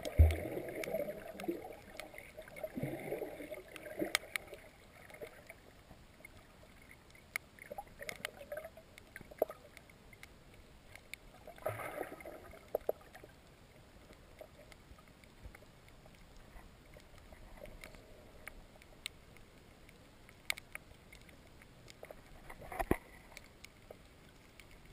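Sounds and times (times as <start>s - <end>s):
muffled underwater water noise: 0.0s - 24.9s.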